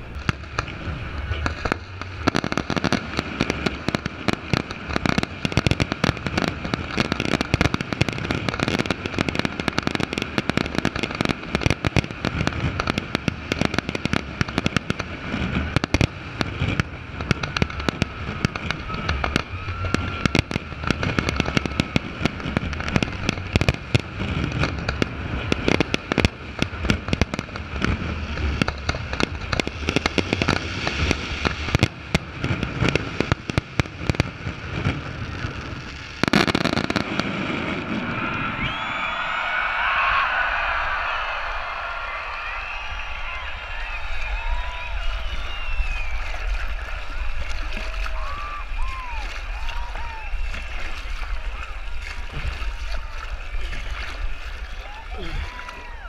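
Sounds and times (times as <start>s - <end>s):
fireworks bursts and crackle: 0.0s - 56.0s.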